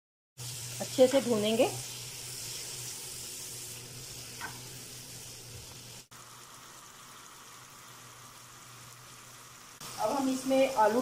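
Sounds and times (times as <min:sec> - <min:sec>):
masala sizzling in oil: 0:00.4 - 0:11.0.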